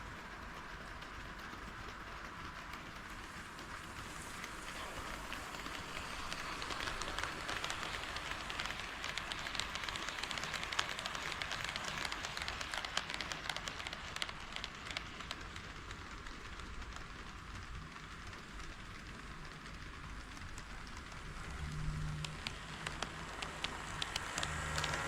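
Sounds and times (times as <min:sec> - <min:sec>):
model train wheels whirring on rails: 0:00.0 - 0:25.0.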